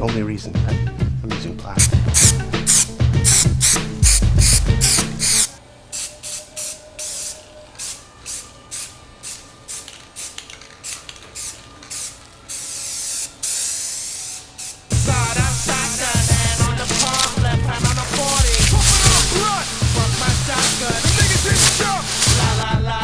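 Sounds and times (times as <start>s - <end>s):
spray paint can hissing: 1.8s - 22.6s.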